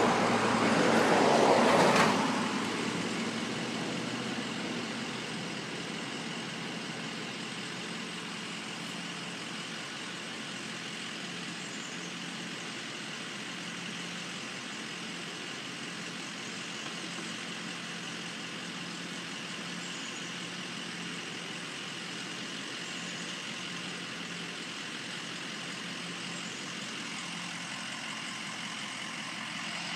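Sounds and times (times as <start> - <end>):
large vehicle engine idling: 0.0 - 29.9.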